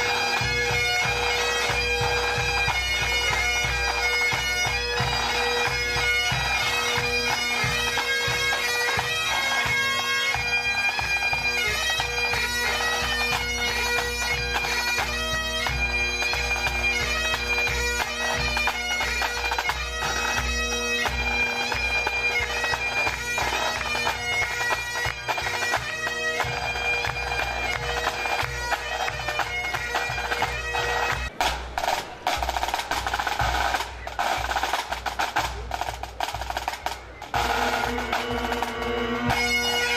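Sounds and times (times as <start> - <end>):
bagpipes playing: 0.0 - 39.9
drums beating time: 0.0 - 39.9.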